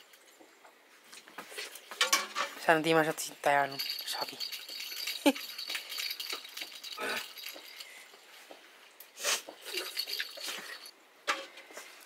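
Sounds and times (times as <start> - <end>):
light clinks and scraping: 1.1 - 12.0.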